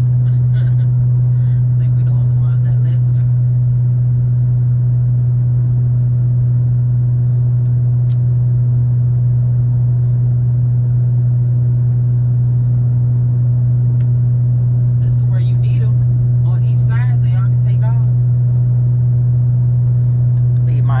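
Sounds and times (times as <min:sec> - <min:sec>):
car cabin engine and road drone: 0:00.0 - 0:21.0.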